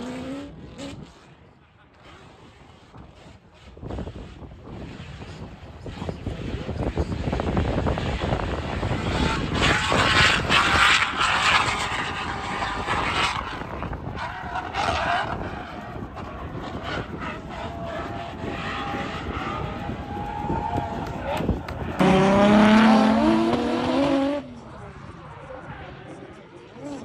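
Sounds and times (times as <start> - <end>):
race car engine: 0.0 - 27.0.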